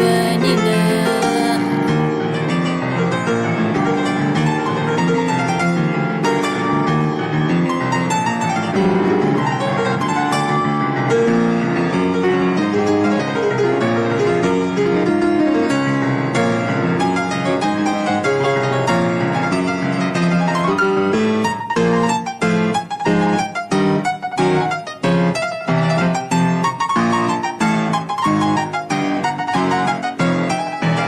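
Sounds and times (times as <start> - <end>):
piano playing chords and melody: 0.0 - 31.0.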